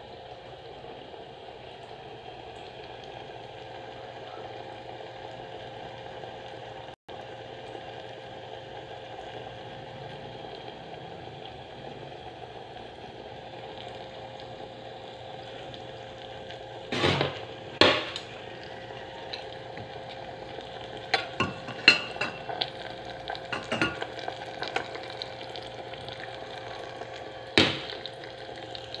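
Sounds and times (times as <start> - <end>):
bananas sizzling in oil: 0.0 - 29.0.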